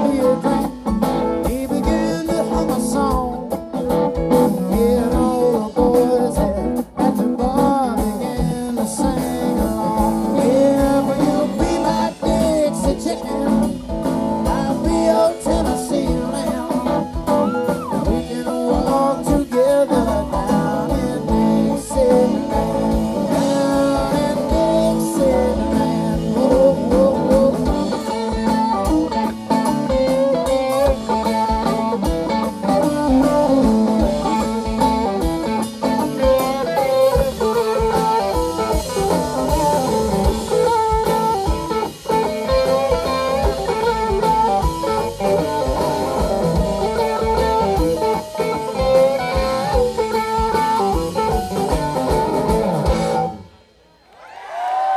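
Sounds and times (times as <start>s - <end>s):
keyboards: 0.0s - 53.7s
drums: 0.0s - 54.9s
electric guitars: 0.0s - 54.9s.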